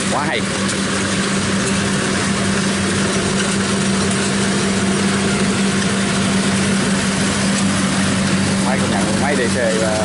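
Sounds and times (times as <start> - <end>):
combine harvester engine running: 0.0 - 10.0.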